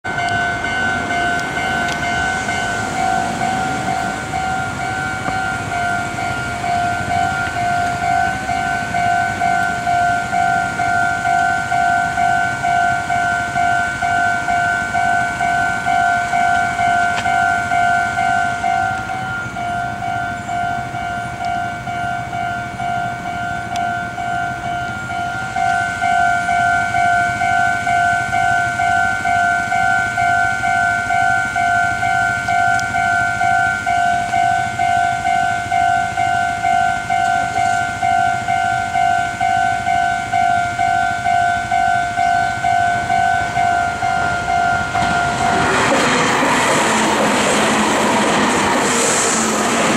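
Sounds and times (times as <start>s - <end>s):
level crossing alarm bell ringing: 0.0s - 48.8s.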